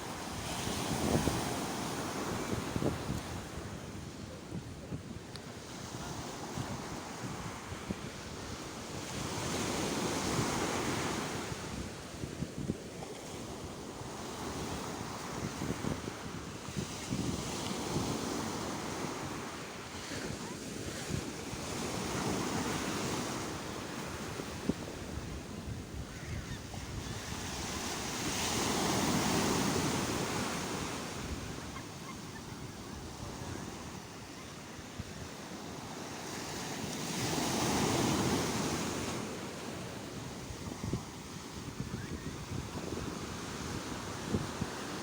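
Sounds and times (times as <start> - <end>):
sea waves breaking on shore: 0.0 - 45.0.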